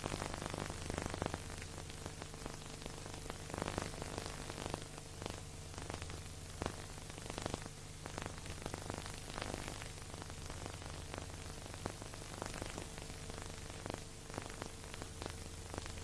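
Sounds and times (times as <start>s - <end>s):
crackles and pops: 0.0s - 16.0s
steady hiss: 0.0s - 16.0s.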